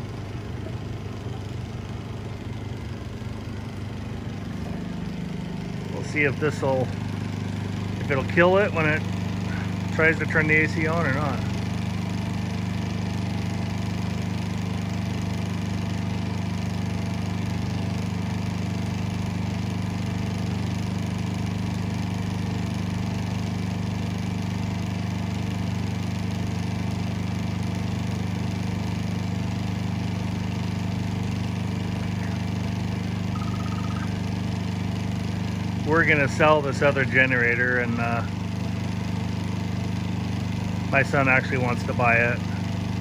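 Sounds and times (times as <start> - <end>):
portable generator running: 0.0 - 43.0.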